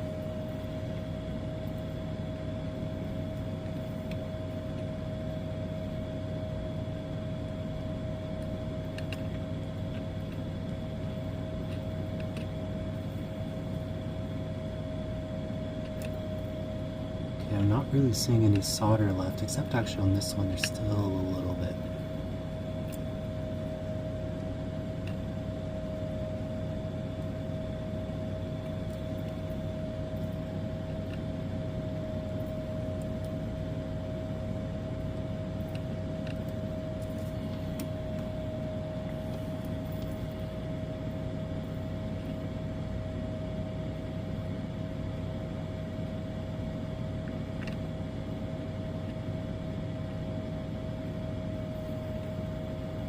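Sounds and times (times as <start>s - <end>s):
constant mid-pitched whine: 0.0s - 53.0s
steady machine hum: 0.0s - 53.0s.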